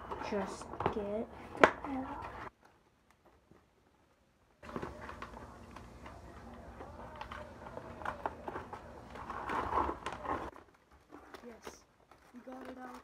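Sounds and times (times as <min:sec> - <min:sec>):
toy packaging rustling and clicking: 0:00.0 - 0:13.0.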